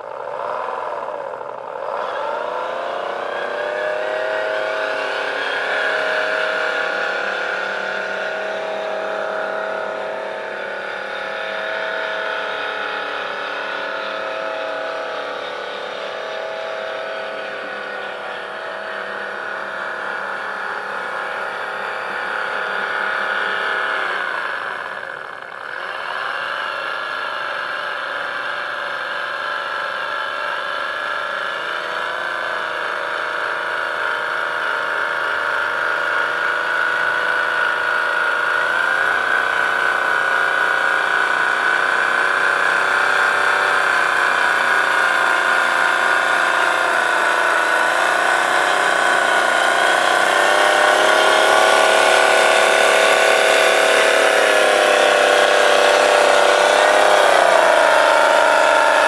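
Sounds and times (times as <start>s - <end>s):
electric motor and gearbox whine: 0.0s - 59.0s.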